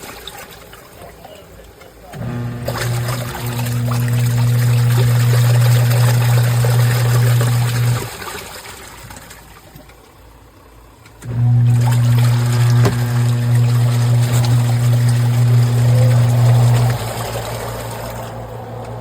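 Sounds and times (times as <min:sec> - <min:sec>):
washing machine motor humming: 0:00.0 - 0:19.0
water sloshing: 0:00.0 - 0:19.0.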